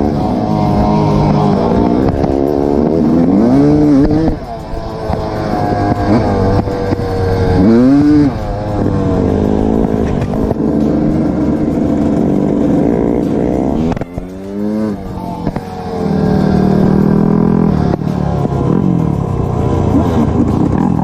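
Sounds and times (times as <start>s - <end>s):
motorcycle engine running: 0.0s - 21.0s
motorcycle throttle blips: 0.0s - 21.0s.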